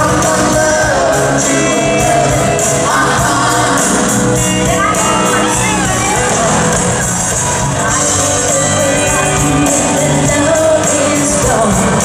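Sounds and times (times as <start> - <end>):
band playing country-pop: 0.0 - 12.0.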